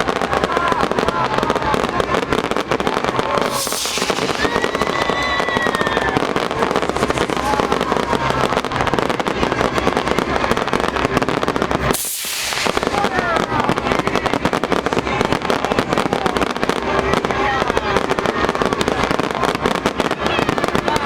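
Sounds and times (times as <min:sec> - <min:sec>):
fireworks crackling bangs: 0:00.0 - 0:21.0.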